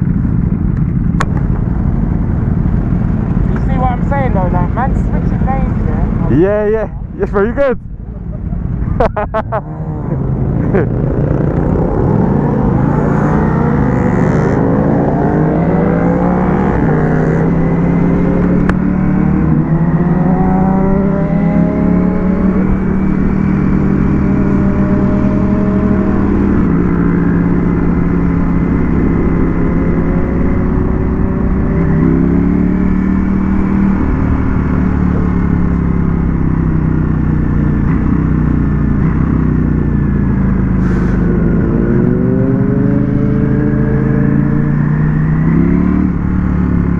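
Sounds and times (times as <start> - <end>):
motorcycle engine revving: 8.8 - 46.9.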